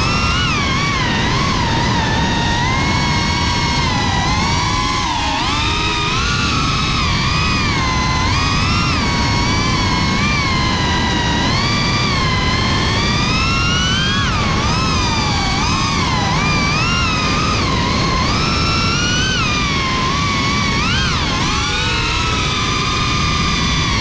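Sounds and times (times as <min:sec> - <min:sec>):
drone motors whining: 0:00.0 - 0:24.0
wind rush: 0:00.0 - 0:24.0.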